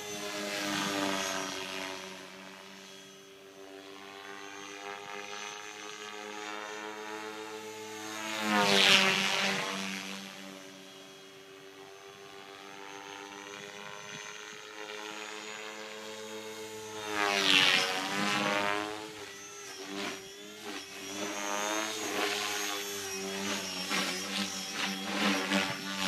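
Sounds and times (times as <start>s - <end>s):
rc helicopter motor whine: 0.0s - 26.0s.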